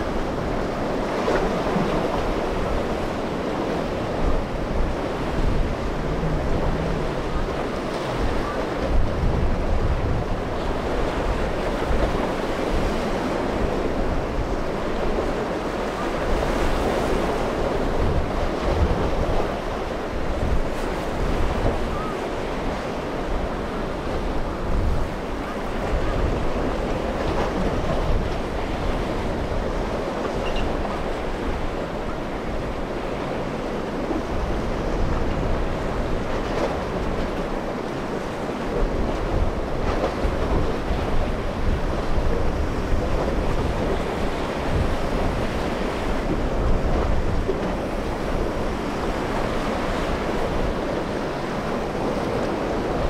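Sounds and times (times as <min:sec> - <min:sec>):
surf breaking and churning: 0:00.0 - 0:53.0
wind buffeting the microphone: 0:00.0 - 0:53.0.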